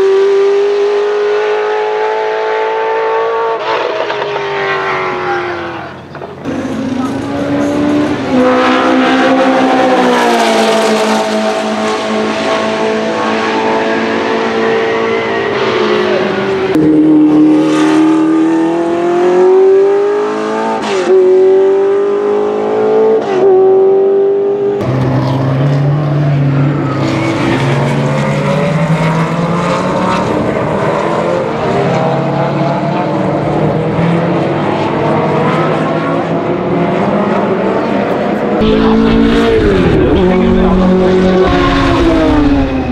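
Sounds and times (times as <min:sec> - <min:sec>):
racing engine running hard: 0:03.4 - 0:20.4, 0:24.8 - 0:42.9.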